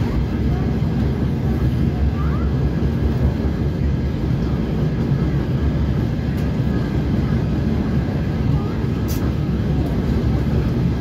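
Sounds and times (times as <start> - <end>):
diesel train engine running: 0.0 - 11.0
train wheels on rails: 0.0 - 11.0.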